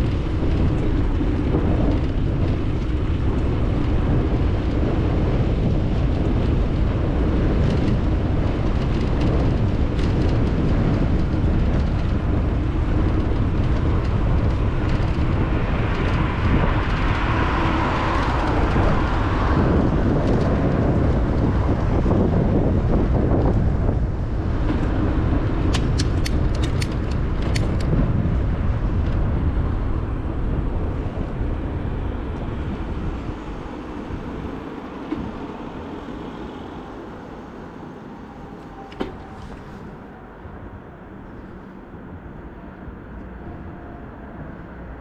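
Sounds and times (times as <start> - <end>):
bicycle tyre noise: 0.0 - 40.2
wind rush: 0.0 - 45.0.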